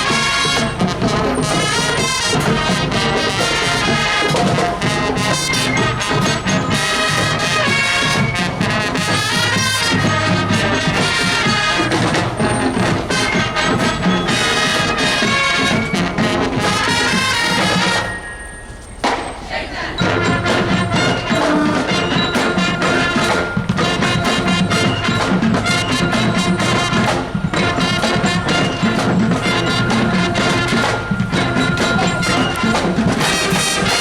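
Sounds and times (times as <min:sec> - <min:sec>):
brass band playing: 0:00.0 - 0:18.5, 0:19.5 - 0:34.0.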